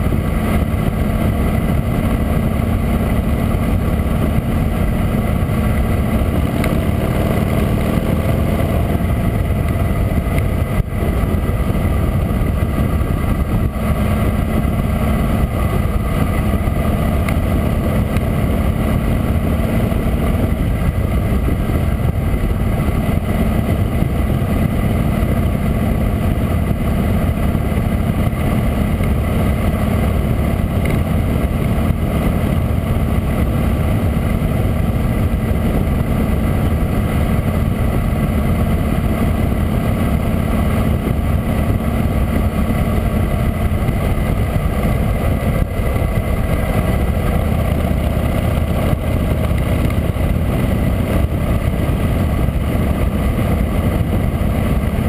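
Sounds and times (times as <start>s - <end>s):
motorcycle engine running: 0.0s - 55.0s
wind rushing on camera: 0.0s - 55.0s.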